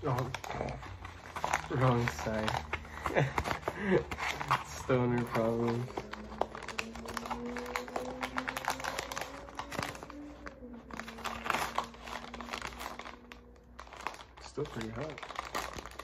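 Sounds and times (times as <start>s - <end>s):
cardboard sleeve rustling: 0.0s - 16.0s
plastic pouch crinkling: 0.0s - 16.0s.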